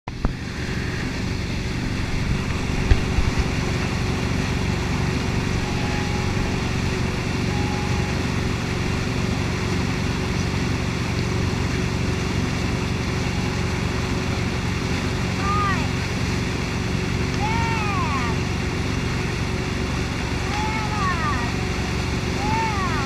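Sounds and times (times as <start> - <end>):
boat engine running: 0.0 - 23.0
rush of boat wake: 0.1 - 23.0.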